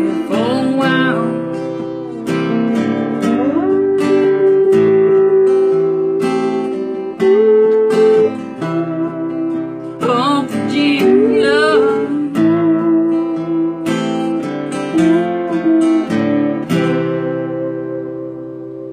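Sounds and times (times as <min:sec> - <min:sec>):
acoustic guitar strumming chords: 0:00.0 - 0:18.9
person singing drawn-out notes: 0:00.0 - 0:18.9.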